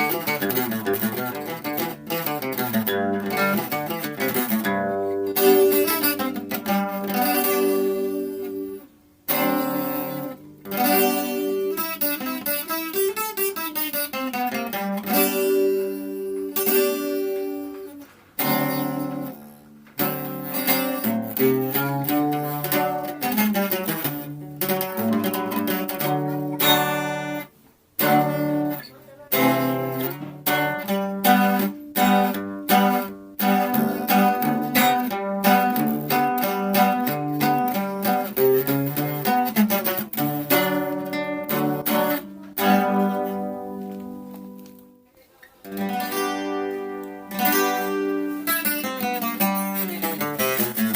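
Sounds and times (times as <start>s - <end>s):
acoustic guitar playing: 0.0s - 50.9s.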